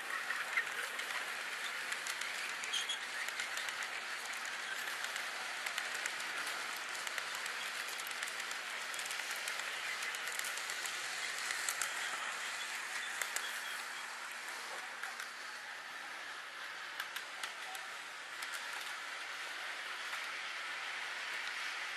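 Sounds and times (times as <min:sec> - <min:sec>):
model train wheels rushing on track: 0:00.0 - 0:21.9
small clicks of train wheels: 0:00.0 - 0:21.9.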